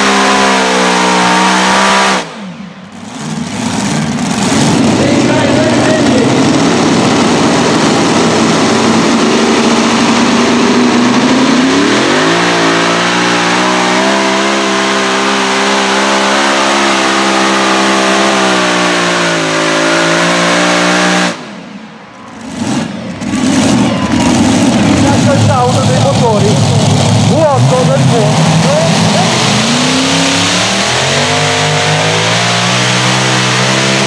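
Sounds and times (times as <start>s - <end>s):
tractor engines revving: 0.0s - 34.0s.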